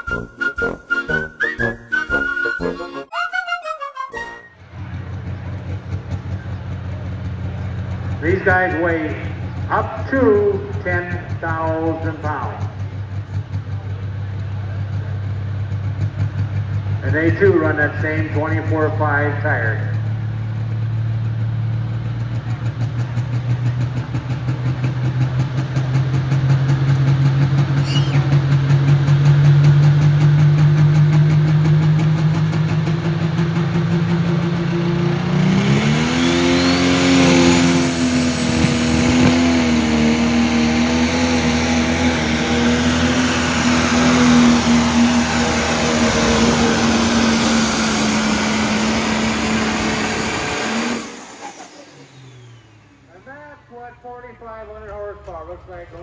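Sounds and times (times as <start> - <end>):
diesel tractor engine revving: 0.0 - 56.0.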